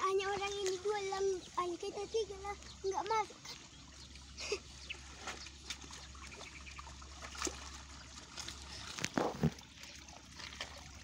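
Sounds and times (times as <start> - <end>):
small water splashes: 0.1 - 11.0.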